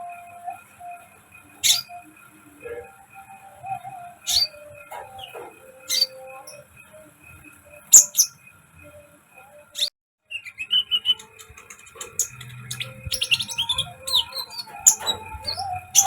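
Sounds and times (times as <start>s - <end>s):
bird chirping: 0.0s - 16.0s
faint steady background tones: 0.0s - 16.0s
whistled bird notes: 0.0s - 16.0s.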